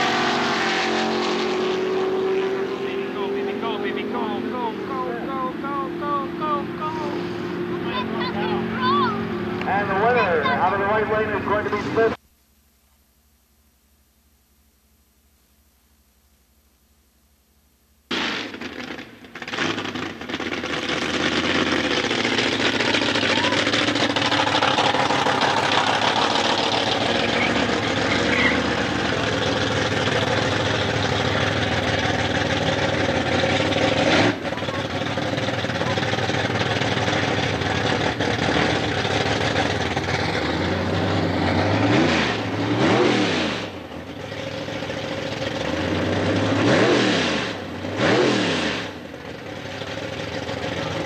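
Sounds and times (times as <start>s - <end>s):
car engine idling and revving: 0.0s - 12.2s, 18.1s - 51.0s.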